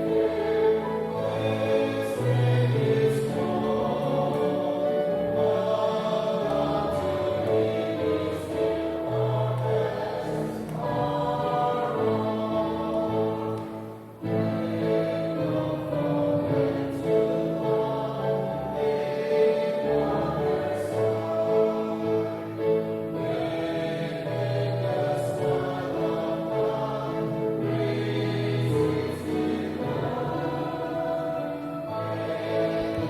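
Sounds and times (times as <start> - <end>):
group singing a hymn: 0.0 - 33.0.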